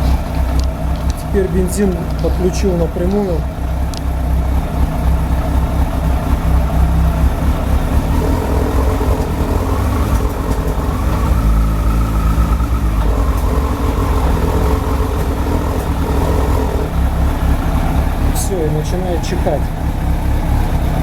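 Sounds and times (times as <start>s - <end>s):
engine backfiring into carburettors: 0.0s - 21.0s
motorcycle engine at low revs: 0.0s - 21.0s.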